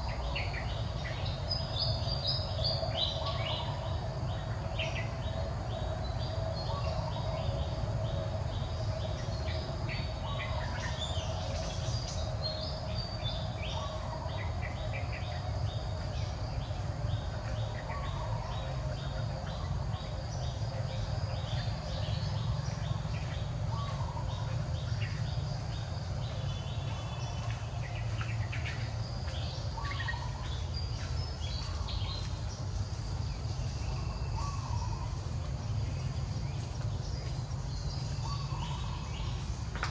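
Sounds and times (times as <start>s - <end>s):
birds chirping: 0.0s - 39.9s
steady low rumble: 0.0s - 39.9s.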